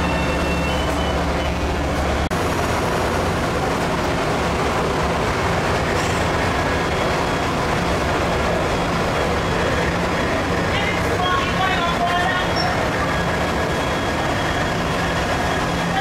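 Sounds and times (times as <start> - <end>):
train passing rush: 0.0 - 16.0.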